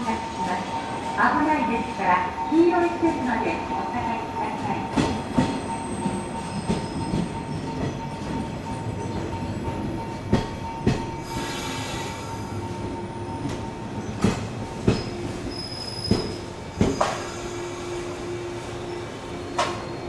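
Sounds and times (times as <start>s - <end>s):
electric train rumble and hum: 0.0s - 20.0s.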